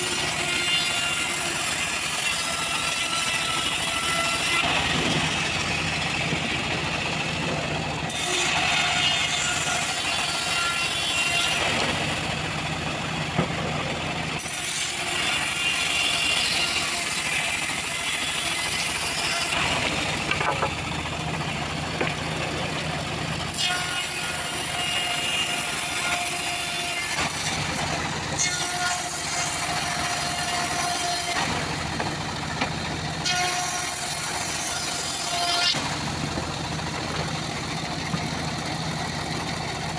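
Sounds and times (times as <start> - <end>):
bandsaw blade cutting wood: 0.0 - 39.9
sawmill machine running: 0.0 - 39.9.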